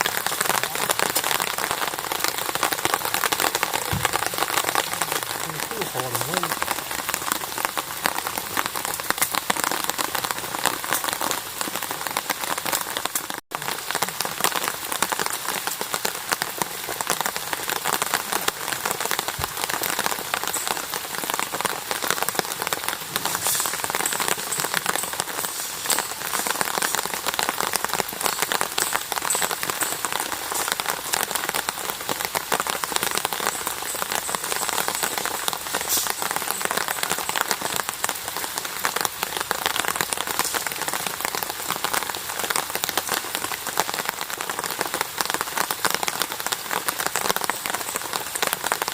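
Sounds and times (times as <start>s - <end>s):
rain falling steadily: 0.0s - 48.9s.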